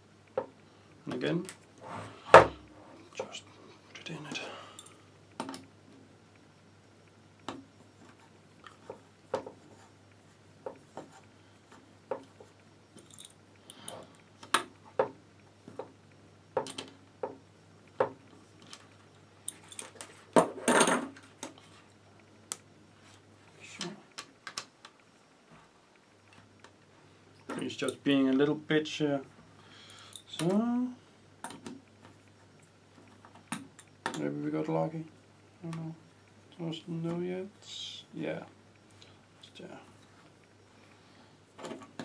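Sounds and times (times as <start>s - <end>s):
faint low hum: 0.0s - 42.0s.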